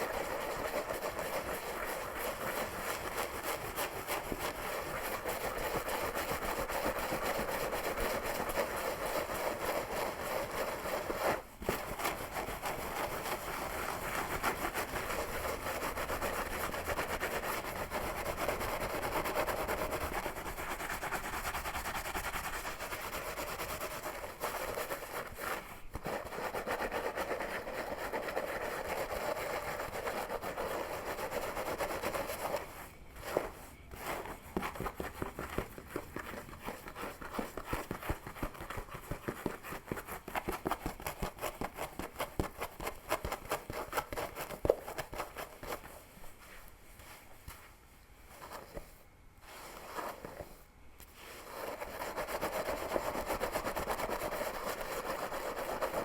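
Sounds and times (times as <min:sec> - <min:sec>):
fingers scratching through hair: 0:00.0 - 0:47.2, 0:51.1 - 0:56.0.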